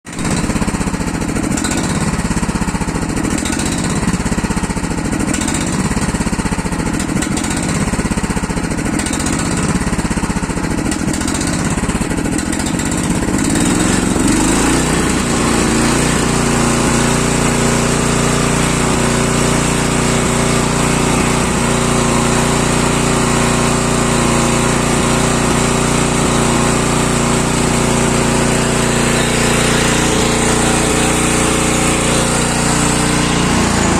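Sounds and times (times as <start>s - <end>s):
tractor diesel engine pulsing: 0.2s - 33.9s.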